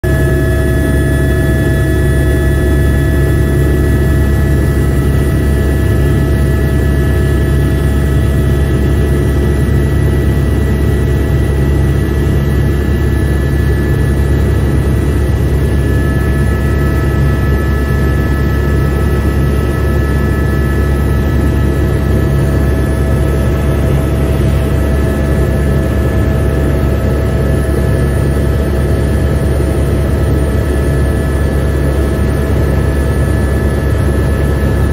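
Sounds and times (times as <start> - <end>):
helicopter rotor and engine drone: 0.0 - 34.9
constant whining tones: 0.1 - 34.9.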